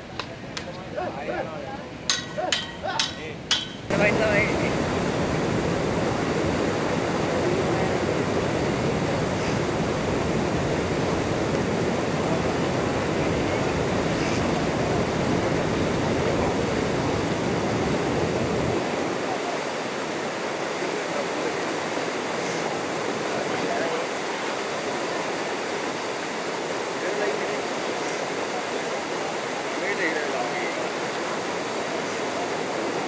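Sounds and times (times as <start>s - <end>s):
water rushing and splashing: 0.0s - 33.0s.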